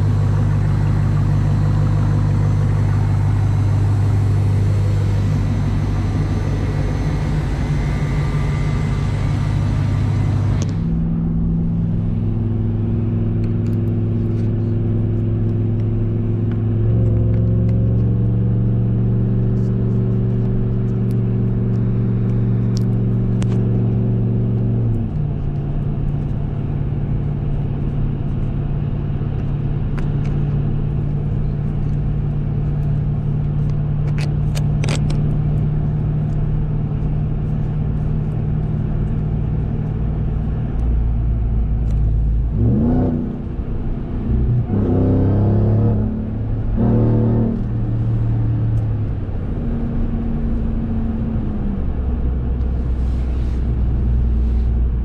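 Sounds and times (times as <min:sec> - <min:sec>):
truck engine while driving: 0:00.0 - 0:55.0.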